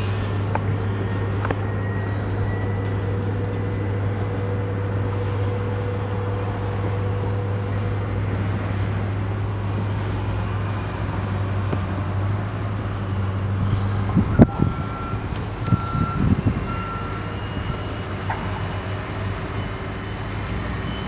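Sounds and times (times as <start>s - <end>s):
engine idling hum: 0.0s - 20.5s
outdoor noise: 0.0s - 21.0s.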